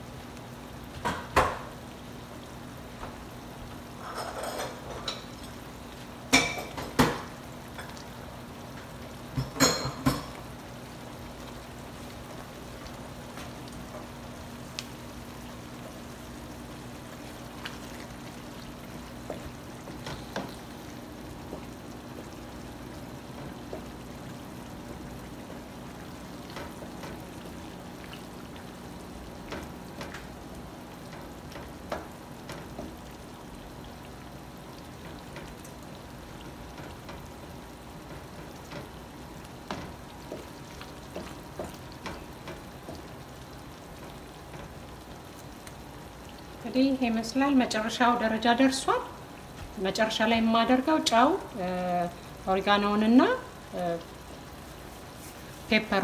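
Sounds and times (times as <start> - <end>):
sauce sizzling in a frying pan: 0.0 - 56.0.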